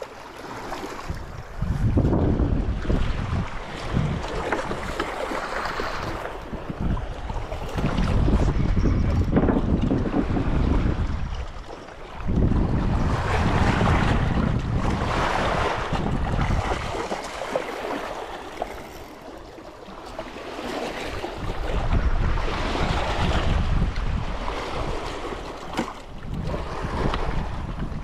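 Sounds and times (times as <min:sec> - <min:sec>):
wind gusting on microphone: 0:01.0 - 0:18.0, 0:20.6 - 0:28.0.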